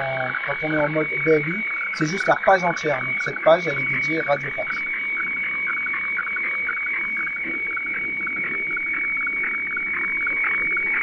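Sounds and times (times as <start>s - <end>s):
radiofax warbling tone: 0.0s - 11.0s.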